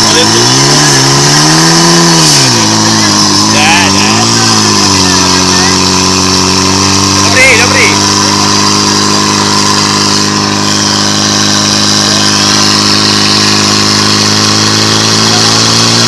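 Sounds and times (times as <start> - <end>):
pump engine running: 0.0 - 16.0.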